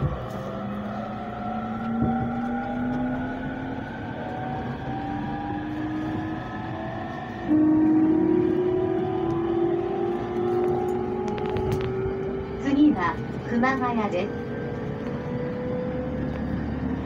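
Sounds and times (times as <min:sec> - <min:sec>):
train motors whining: 0:00.0 - 0:17.0
train wheels rumbling: 0:00.0 - 0:17.0.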